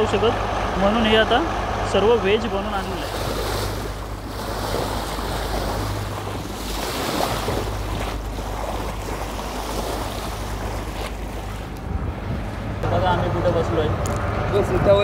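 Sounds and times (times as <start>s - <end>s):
boat engine humming: 0.0s - 15.0s
rushing wind and water: 0.0s - 15.0s
wind buffeting microphone: 0.0s - 15.0s.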